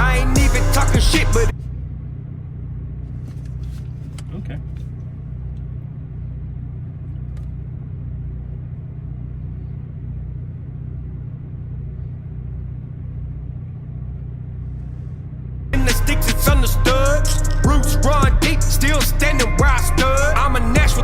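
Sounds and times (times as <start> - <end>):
low hum: 0.0 - 21.0
steady low rumble: 0.0 - 21.0.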